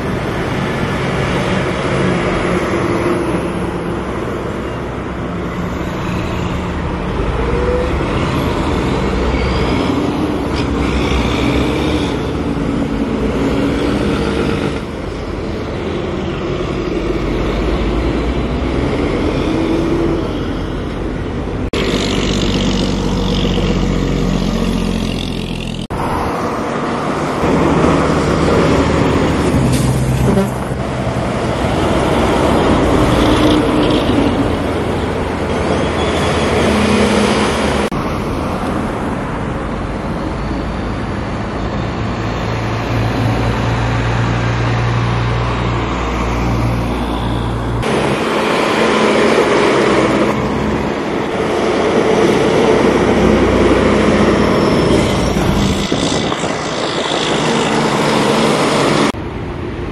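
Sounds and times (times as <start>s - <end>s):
tyre and road noise: 0.0s - 59.9s
vehicles driving past: 0.0s - 59.9s.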